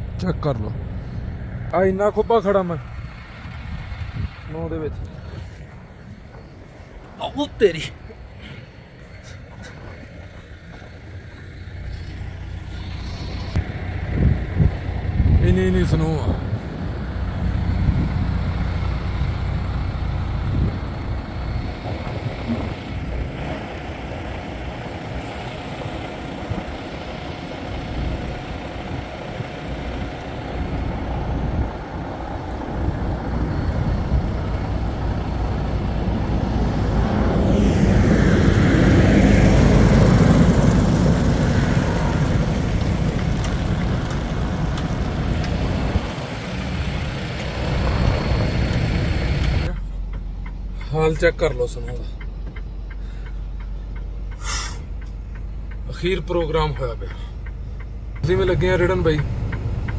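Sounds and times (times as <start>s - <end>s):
vehicle driving rumble: 0.0s - 59.9s.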